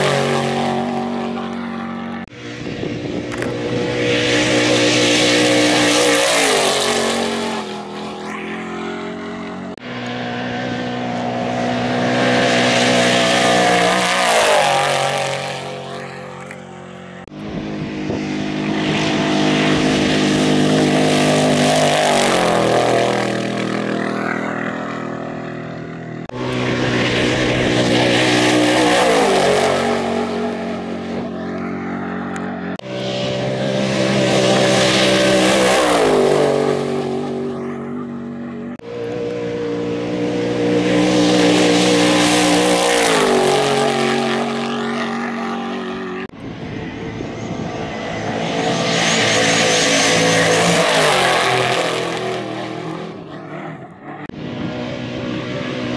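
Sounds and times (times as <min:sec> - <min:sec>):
trucks racing past: 0:00.0 - 0:55.9.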